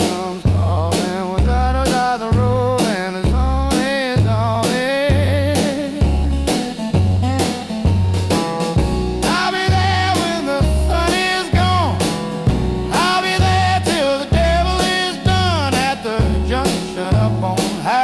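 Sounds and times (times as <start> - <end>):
blues song: 0.0 - 18.0.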